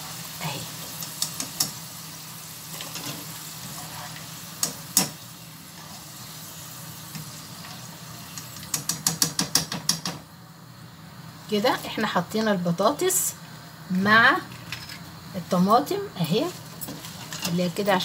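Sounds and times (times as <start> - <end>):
potatoes sizzling in hot oil: 0.0 - 18.0.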